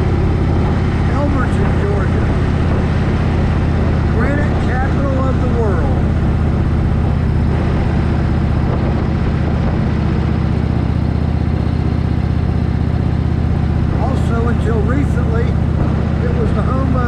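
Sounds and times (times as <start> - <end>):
wind rushing: 0.0 - 14.6, 15.2 - 17.0
motorcycle engine cruising: 0.0 - 17.0.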